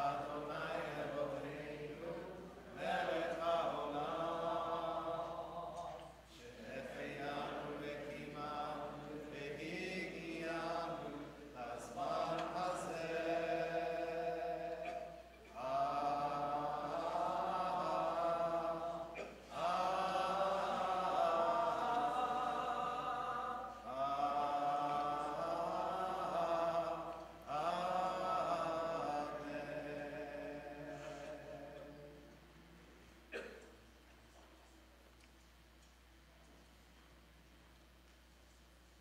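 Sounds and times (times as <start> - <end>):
congregation singing a prayer: 0.0 - 32.6.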